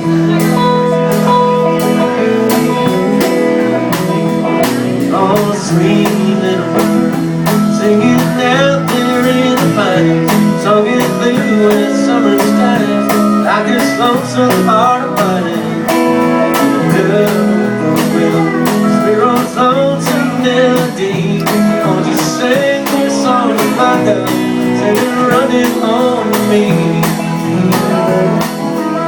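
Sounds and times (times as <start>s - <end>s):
country band playing: 0.0s - 29.0s
lead melody with bending notes: 0.0s - 29.0s
strummed guitar: 0.0s - 29.0s.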